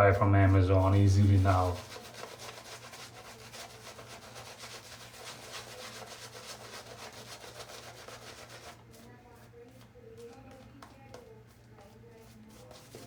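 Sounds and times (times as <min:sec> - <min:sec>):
shaving brush rubbing lather: 0:00.0 - 0:13.0.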